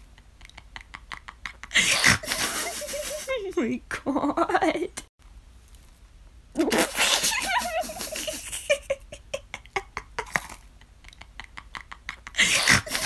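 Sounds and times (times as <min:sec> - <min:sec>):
person laughing: 0:00.4 - 0:04.9, 0:06.6 - 0:13.0.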